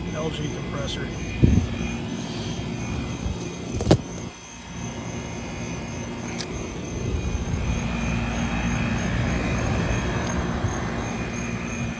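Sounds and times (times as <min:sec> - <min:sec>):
compressor hum: 0:00.0 - 0:11.9
fan whirring: 0:00.0 - 0:11.9.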